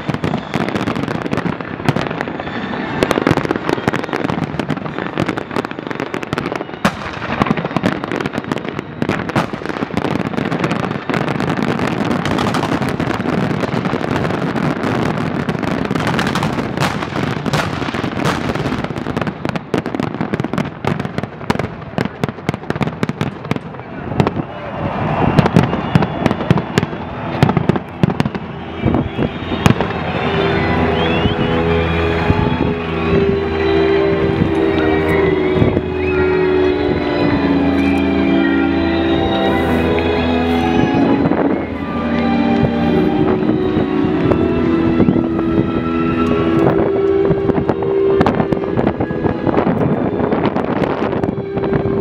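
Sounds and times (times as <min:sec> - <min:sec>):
fireworks bangs: 0:00.0 - 0:52.0
fireworks crackling and popping: 0:00.0 - 0:52.0.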